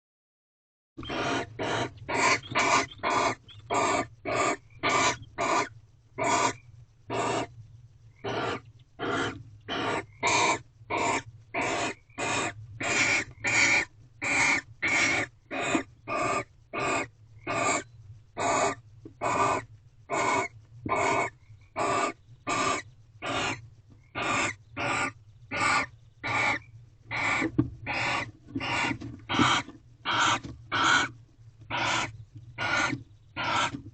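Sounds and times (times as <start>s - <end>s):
barn owl screeching: 1.0s - 7.5s, 8.2s - 33.8s.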